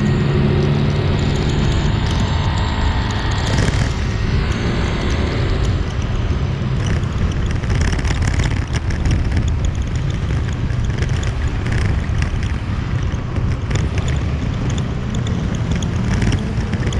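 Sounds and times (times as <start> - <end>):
motorbike engine rumble: 0.0 - 16.9
road noise: 0.0 - 16.9
wind buffeting microphone: 0.0 - 16.9.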